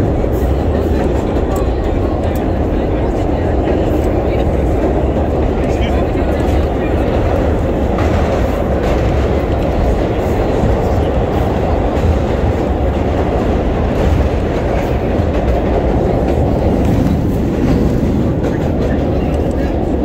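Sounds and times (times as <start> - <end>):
subway train rumbling in tunnel: 0.0 - 20.0.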